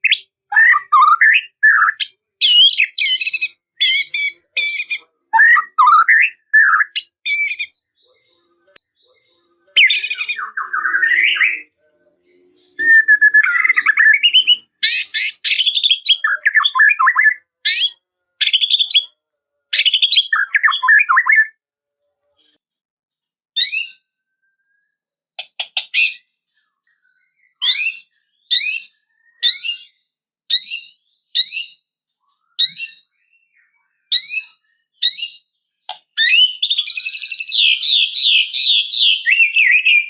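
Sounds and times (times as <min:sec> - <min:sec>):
bird singing varied song: 0:00.0 - 0:21.6, 0:23.6 - 0:40.0.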